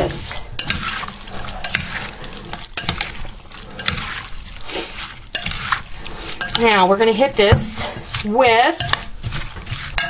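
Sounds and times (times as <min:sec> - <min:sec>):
wet salad squelching and sloshing: 0:00.0 - 0:10.0.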